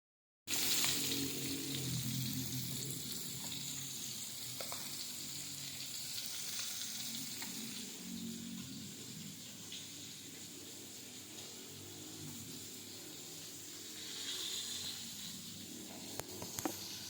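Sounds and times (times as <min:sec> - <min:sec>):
oil sizzling in a pan: 0:00.5 - 0:17.0.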